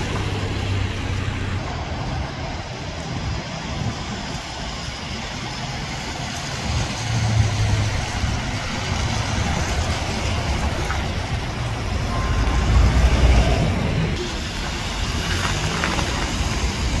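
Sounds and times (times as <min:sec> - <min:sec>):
bus driving past: 0:00.0 - 0:17.0
steady traffic noise: 0:00.0 - 0:17.0
tyre noise on wet road: 0:00.0 - 0:17.0.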